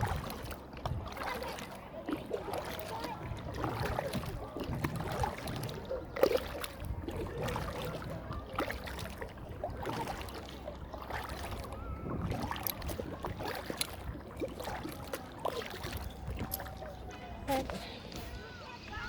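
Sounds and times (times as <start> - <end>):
kayak paddle splashing in water: 0.0 - 19.0.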